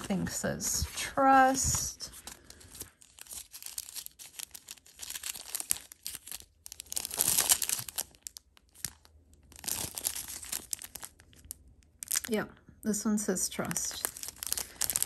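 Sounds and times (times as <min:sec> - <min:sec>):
packaging crinkling and rustling: 0:00.9 - 0:12.3, 0:13.6 - 0:15.0.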